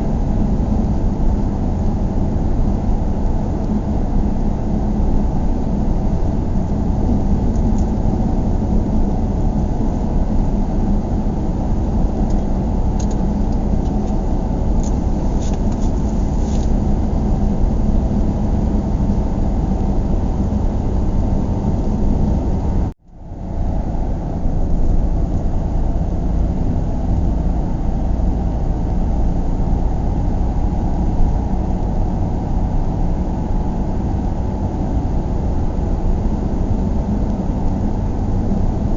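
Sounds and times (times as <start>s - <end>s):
car interior road and engine noise: 0.0s - 38.9s.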